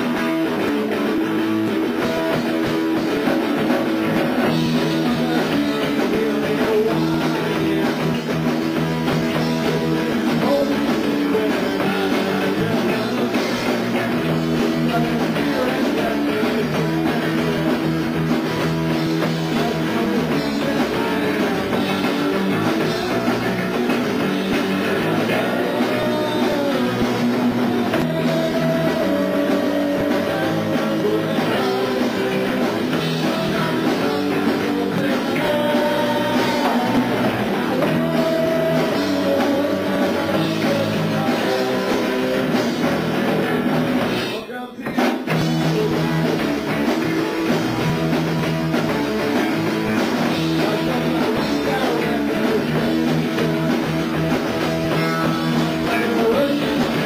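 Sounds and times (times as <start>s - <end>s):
lead vocal singing: 0.0s - 47.5s, 48.9s - 57.0s
bass guitar: 0.0s - 57.0s
drum kit: 0.0s - 57.0s
electric guitar: 0.0s - 57.0s.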